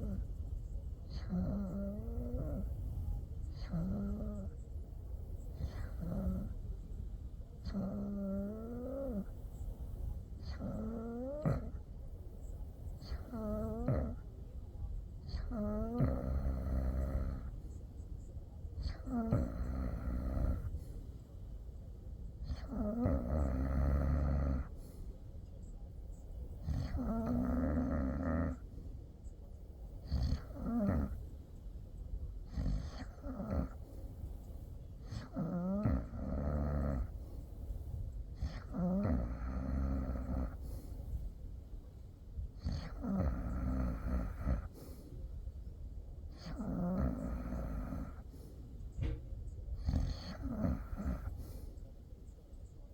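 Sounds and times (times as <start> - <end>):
quiet breathing: 0.0 - 52.9.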